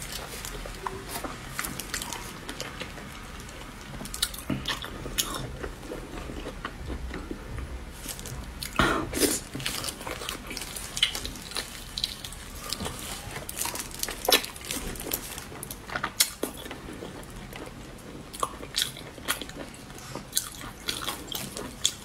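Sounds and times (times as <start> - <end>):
person chewing wetly: 0.0 - 22.0.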